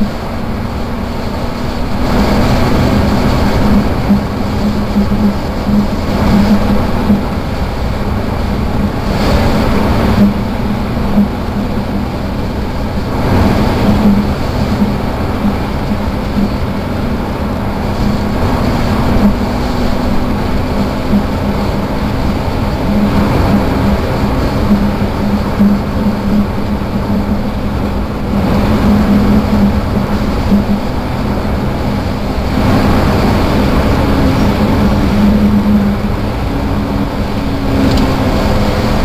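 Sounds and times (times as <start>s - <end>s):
car engine droning: 0.0s - 39.0s
road and tyre noise: 0.0s - 39.0s.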